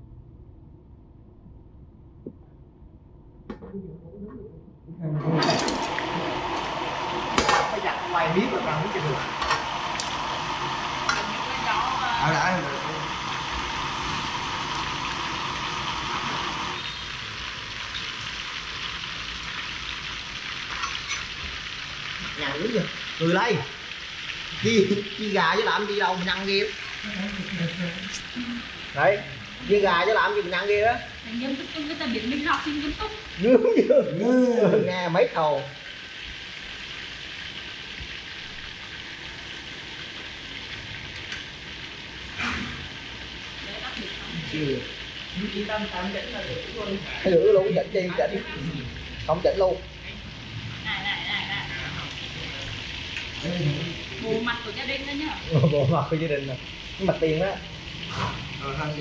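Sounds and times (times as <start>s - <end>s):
food deep-frying in hot oil: 5.0s - 59.0s.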